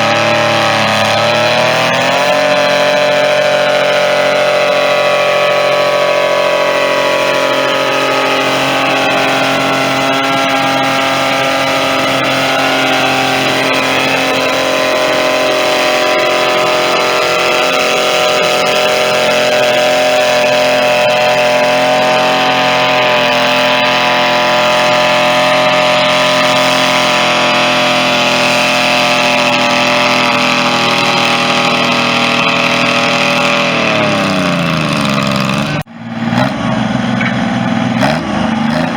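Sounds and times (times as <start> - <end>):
tractor engine running hard: 0.0 - 38.9.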